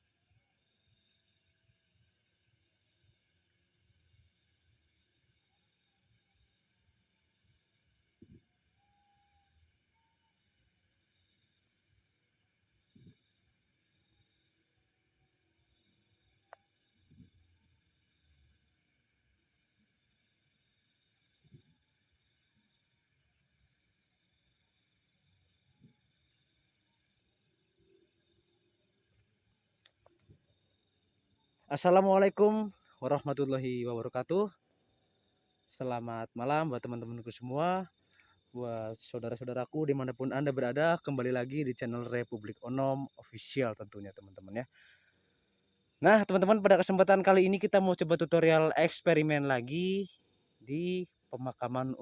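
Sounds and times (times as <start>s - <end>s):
crickets chirping: 0.0s - 52.0s
high-pitched insect drone: 0.0s - 52.0s.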